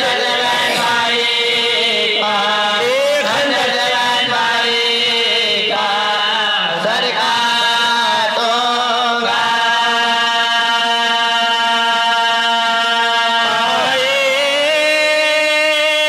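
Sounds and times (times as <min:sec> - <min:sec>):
male voices chanting: 0:00.0 - 0:16.0.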